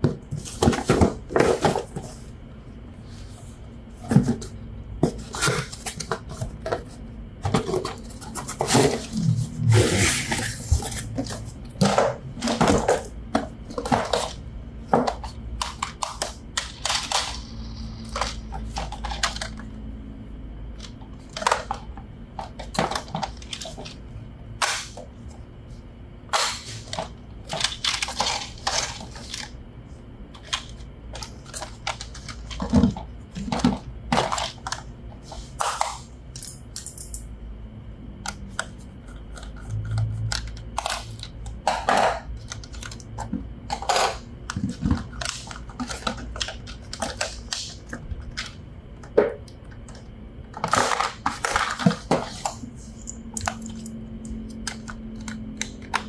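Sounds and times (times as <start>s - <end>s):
toys and packaging clicking and rustling: 0.0s - 2.3s, 4.0s - 19.8s, 20.8s - 24.0s, 26.4s - 29.6s, 30.4s - 36.0s, 38.2s - 56.0s.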